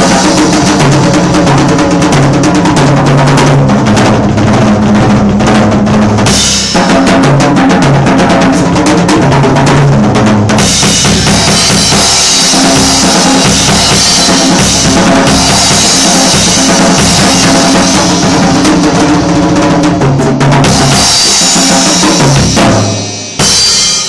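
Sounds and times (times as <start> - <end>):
bass drum and snare beat: 0.0 - 24.0.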